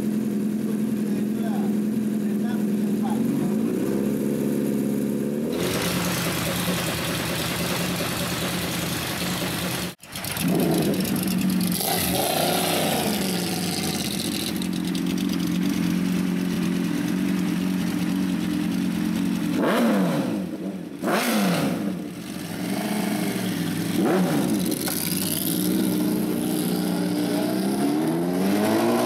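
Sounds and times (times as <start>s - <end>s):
motorcycle engine idling: 0.0s - 19.8s, 21.9s - 27.2s
motorcycle engine revving: 0.0s - 29.0s.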